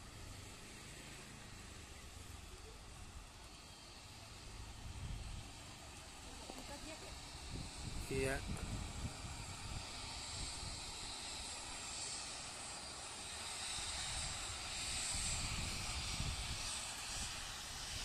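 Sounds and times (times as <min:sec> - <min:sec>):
jet engine hiss and whine: 0:00.0 - 0:18.0.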